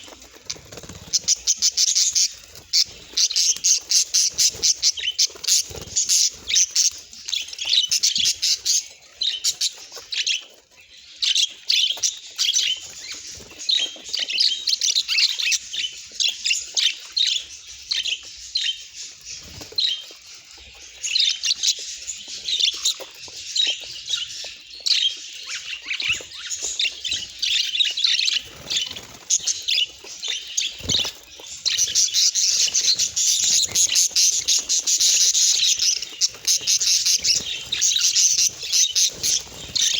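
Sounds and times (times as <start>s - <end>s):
budgerigar chirping and chattering: 0.0s - 10.4s, 11.0s - 39.9s.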